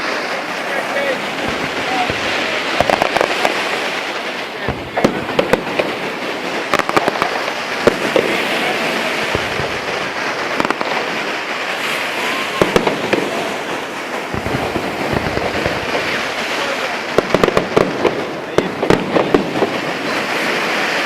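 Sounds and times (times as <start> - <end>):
fireworks bangs and crackling: 0.0 - 21.0
sharp firework cracks: 0.0 - 21.0.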